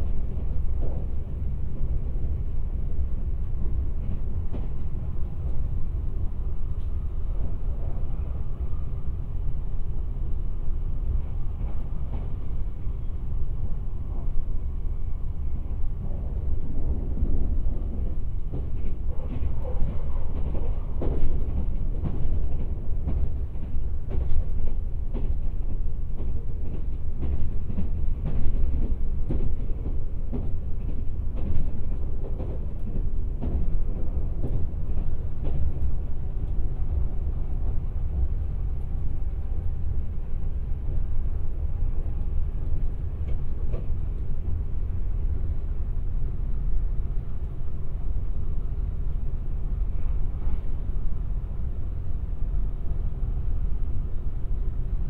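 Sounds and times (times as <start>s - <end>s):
rail clicks and knocks: 0.0s - 8.7s, 11.0s - 14.7s, 15.6s - 55.0s
train wheel rumble: 0.0s - 55.0s.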